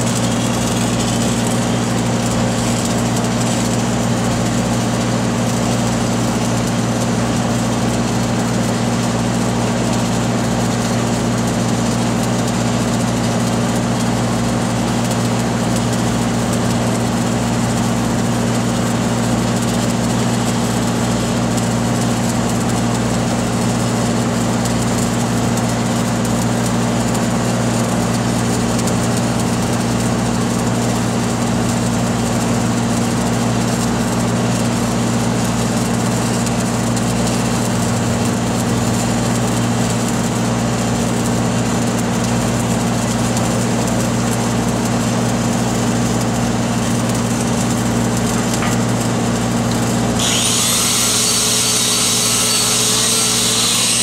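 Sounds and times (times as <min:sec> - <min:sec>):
welding machine engine running: 0:00.0 - 0:54.0.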